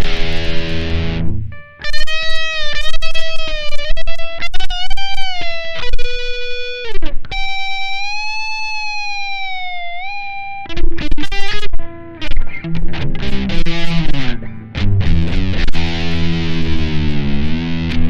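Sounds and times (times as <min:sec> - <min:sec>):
electric guitar lead: 0:00.0 - 0:18.0.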